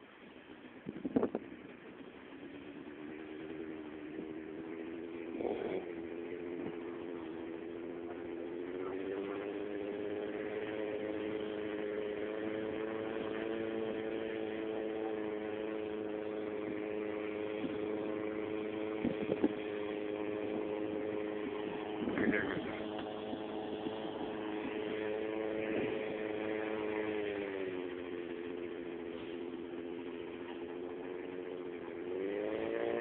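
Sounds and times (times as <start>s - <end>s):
paramotor engine running: 0.0s - 33.0s.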